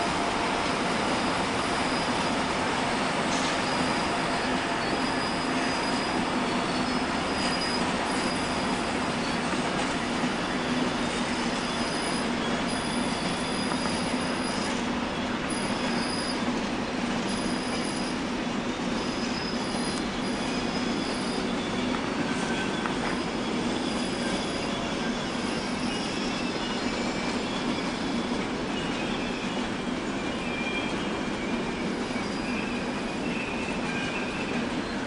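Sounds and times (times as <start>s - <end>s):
high wheel squeals: 0.0s - 35.0s
train rumbling on tracks: 0.0s - 35.0s.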